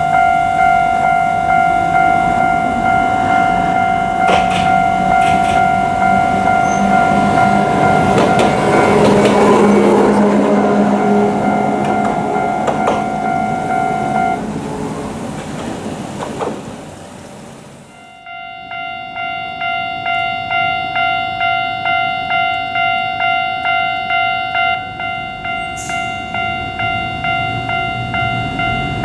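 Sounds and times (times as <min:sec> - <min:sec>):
level crossing warning bell: 0:00.0 - 0:16.2, 0:17.8 - 0:29.0
train running past: 0:00.0 - 0:29.0.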